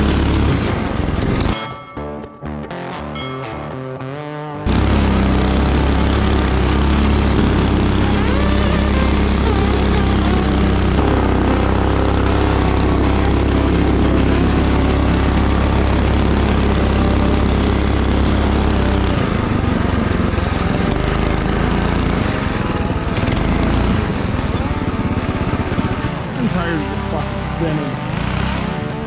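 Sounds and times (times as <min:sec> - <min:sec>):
go-kart engine running: 0:00.0 - 0:01.5, 0:04.7 - 0:29.0.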